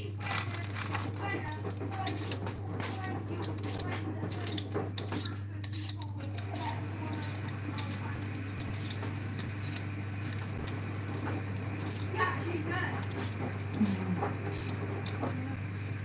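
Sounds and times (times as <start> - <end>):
steady low hum: 0.0 - 16.0
peeler scraping potato skin: 0.2 - 16.0.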